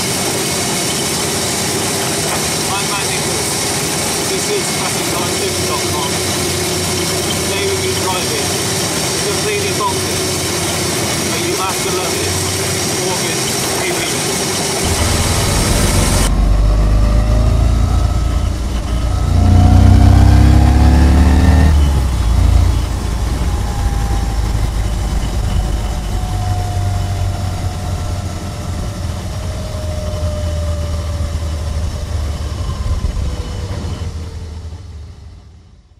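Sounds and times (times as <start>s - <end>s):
v-twin engine accelerating: 0.0s - 35.6s.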